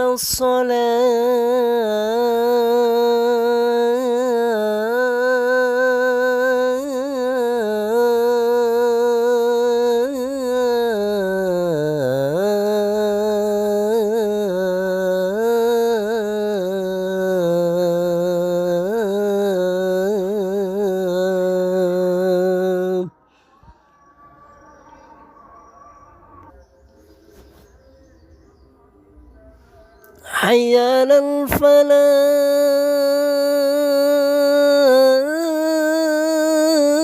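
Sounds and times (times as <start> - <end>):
man singing call to prayer: 0.0 - 37.0.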